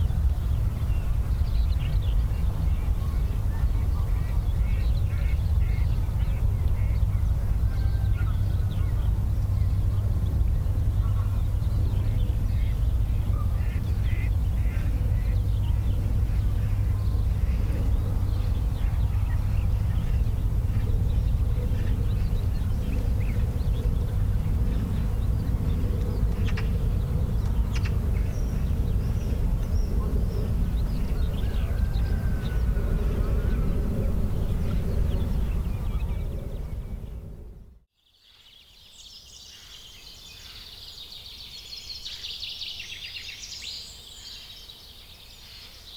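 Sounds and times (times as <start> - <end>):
low rumble: 0.0 - 37.9.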